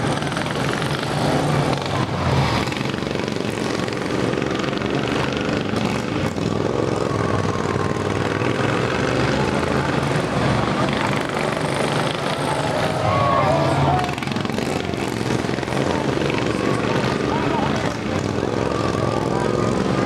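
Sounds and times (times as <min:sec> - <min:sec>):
racing lawn mower engines: 0:00.0 - 0:20.0.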